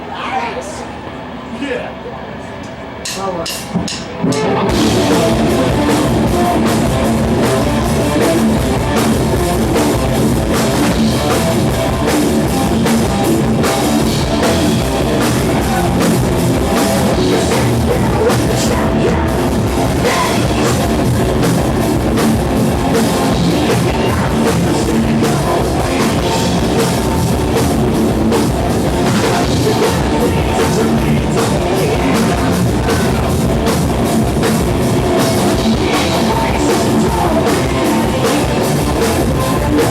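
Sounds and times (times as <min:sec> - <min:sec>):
drum kit: 0:03.1 - 0:39.9
live rock band: 0:03.7 - 0:39.9
distorted electric guitar: 0:04.1 - 0:39.9.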